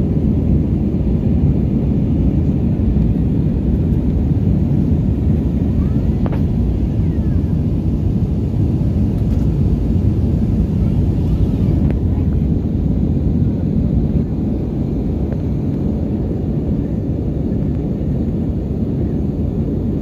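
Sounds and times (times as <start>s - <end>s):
jet engine cabin noise: 0.0s - 20.0s.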